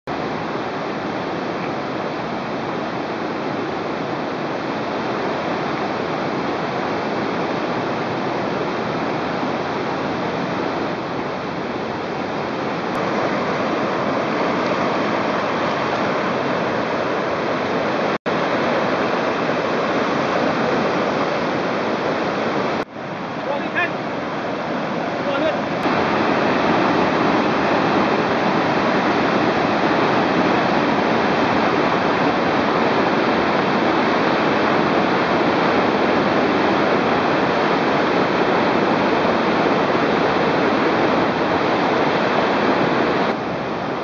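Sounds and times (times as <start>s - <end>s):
river water rushing: 0.1s - 44.0s.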